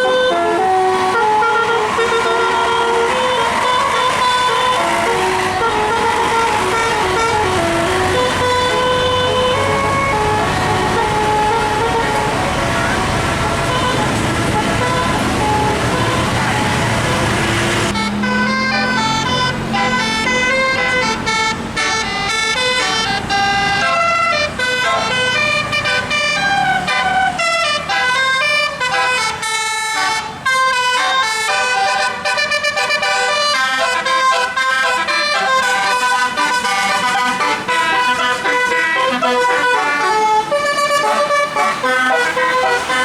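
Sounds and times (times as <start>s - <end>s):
musical air horn melody: 0.0s - 43.0s
road and engine noise: 0.0s - 43.0s.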